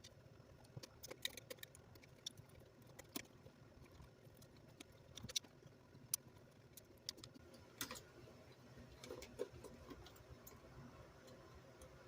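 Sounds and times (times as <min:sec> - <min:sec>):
small parts and tools clicking: 0:00.0 - 0:12.0.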